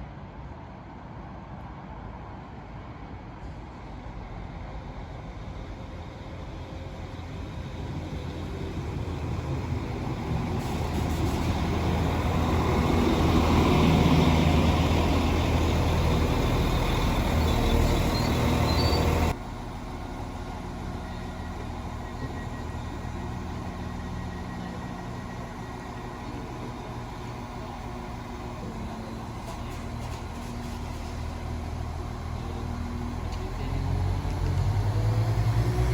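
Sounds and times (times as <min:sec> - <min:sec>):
diesel train passing: 0:00.0 - 0:35.9.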